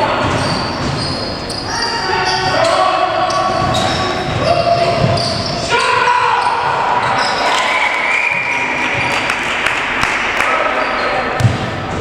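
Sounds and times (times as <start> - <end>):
echoing hall noise: 0.0 - 12.0
players calling: 0.0 - 12.0.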